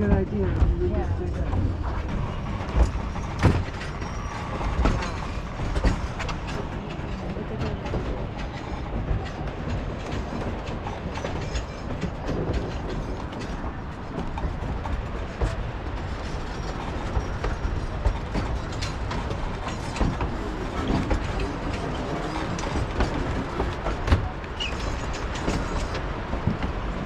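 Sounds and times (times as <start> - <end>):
train cars rumbling on track: 0.0 - 27.0
wheels clacking over rails: 0.0 - 27.0.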